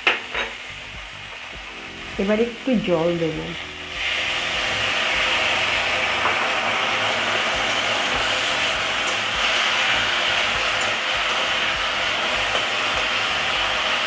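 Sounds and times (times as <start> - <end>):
oil sizzling in a wok: 0.0 - 14.0.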